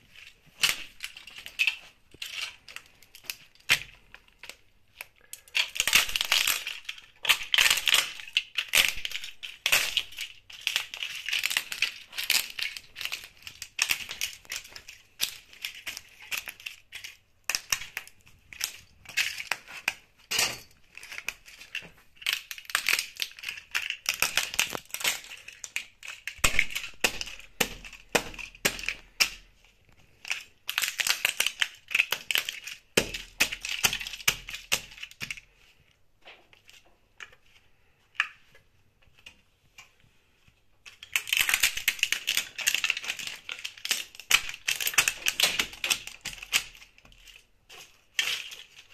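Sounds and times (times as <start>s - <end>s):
plastic cracking and crunching underfoot: 0.0s - 39.8s, 40.8s - 48.9s.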